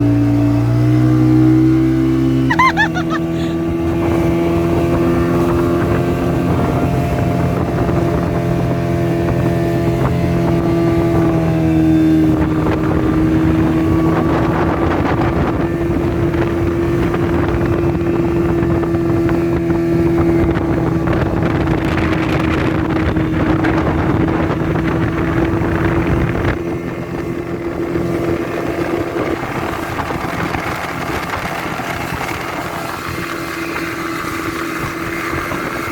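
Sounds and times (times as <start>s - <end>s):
motorboat engine running: 0.0s - 35.9s
rushing water: 0.0s - 35.9s
wind noise: 2.6s - 35.9s.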